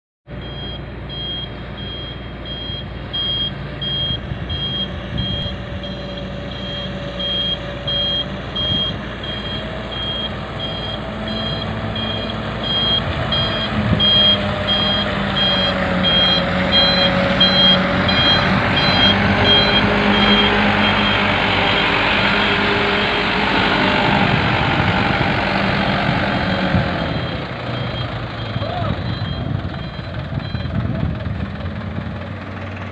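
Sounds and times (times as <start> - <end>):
heavy diesel machinery running: 0.3 - 32.9
reversing alarm beeps: 0.4 - 23.1, 26.4 - 30.9.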